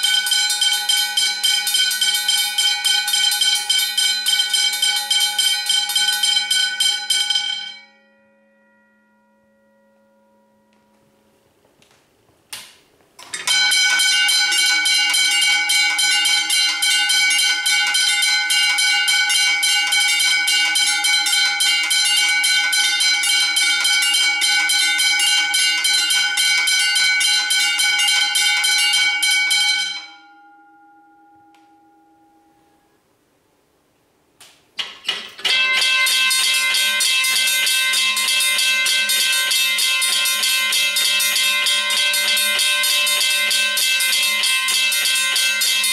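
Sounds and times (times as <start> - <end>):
level-crossing bells ringing: 0.0 - 11.4, 13.2 - 33.0, 35.0 - 45.9.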